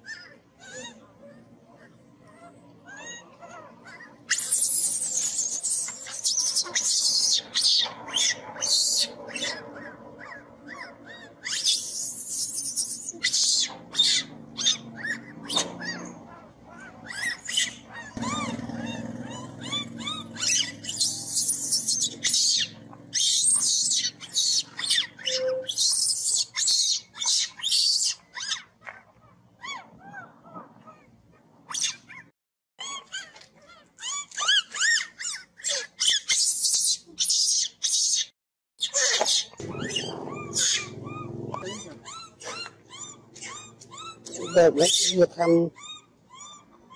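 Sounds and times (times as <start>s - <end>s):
baby monkeys screaming: 0.0s - 1.0s, 2.4s - 28.7s, 29.6s - 31.1s, 31.7s - 32.2s, 32.8s - 46.9s.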